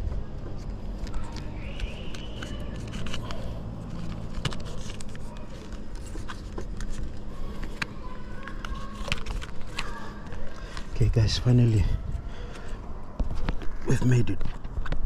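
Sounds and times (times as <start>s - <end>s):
flashing roll crinkling and scraping: 0.0s - 15.0s.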